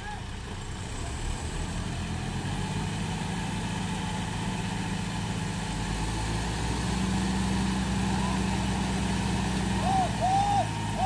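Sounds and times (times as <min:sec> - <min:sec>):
tractor diesel engines running: 0:00.0 - 0:11.0.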